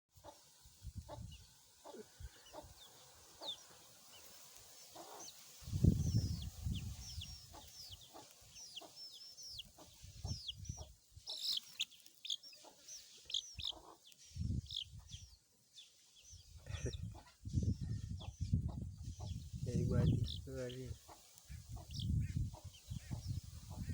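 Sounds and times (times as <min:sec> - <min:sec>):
chicks peeping: 0:00.2 - 0:15.4, 0:16.1 - 0:23.9.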